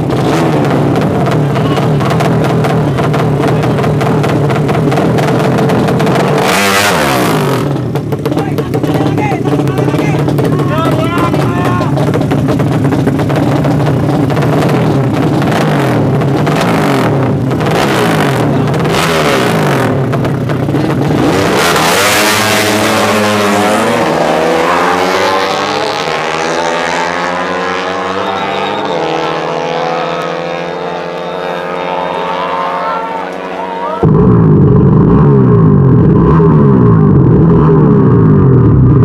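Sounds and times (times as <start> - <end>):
motorcycle engine revving and accelerating: 0.0 - 39.0.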